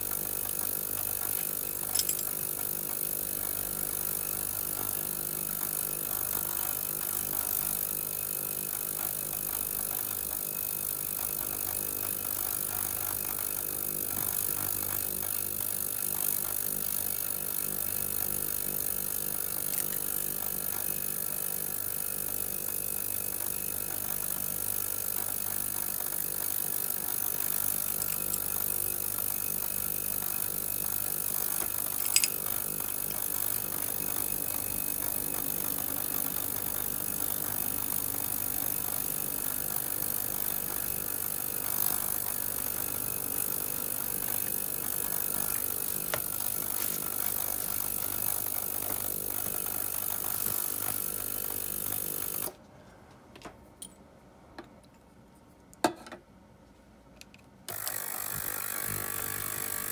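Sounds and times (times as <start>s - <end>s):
small power tool running: 0.0s - 52.6s, 57.7s - 59.9s.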